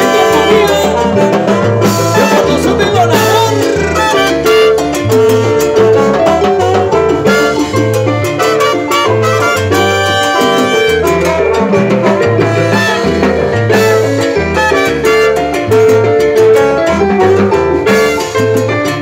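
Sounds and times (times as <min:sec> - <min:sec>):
electric bass line: 0:00.0 - 0:19.0
salsa band playing: 0:00.0 - 0:19.0.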